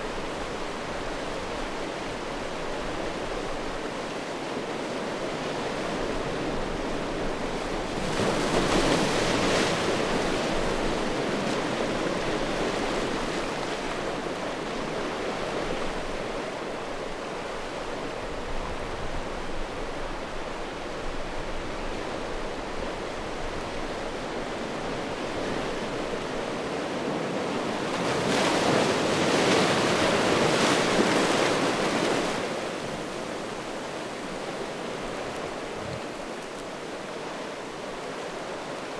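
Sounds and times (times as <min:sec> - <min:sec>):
waves on a stony beach: 0:00.0 - 0:38.9.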